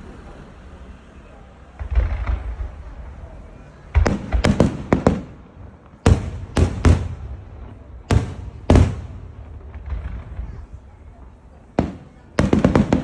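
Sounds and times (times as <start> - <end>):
firework shells bursting: 1.8 - 13.0.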